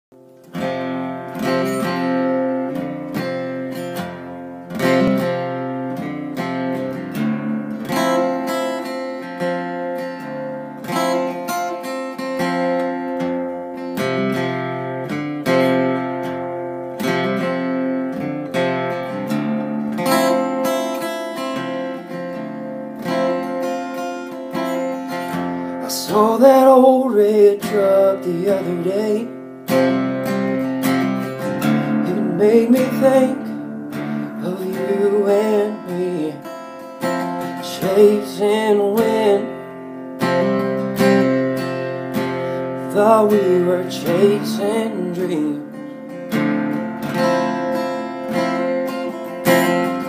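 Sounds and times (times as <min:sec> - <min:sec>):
acoustic guitar chords: 0:00.1 - 0:50.0.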